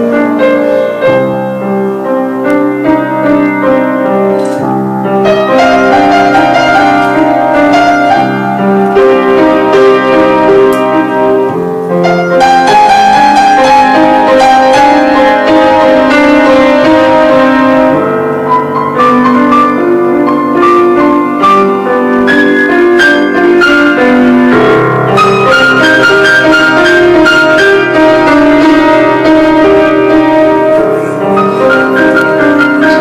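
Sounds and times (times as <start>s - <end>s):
piano melody over chords: 0.0s - 33.0s.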